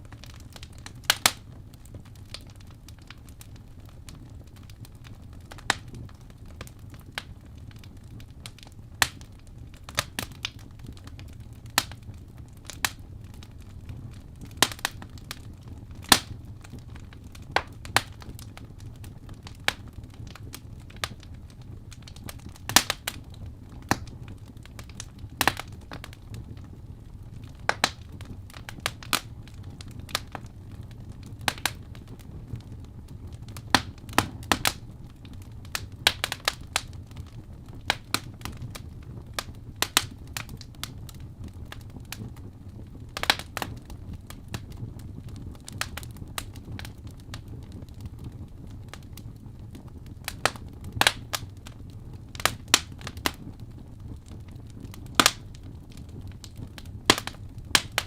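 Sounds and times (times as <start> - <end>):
fire pops and crackles: 0.0 - 58.0
low rumble of flames: 0.0 - 58.0.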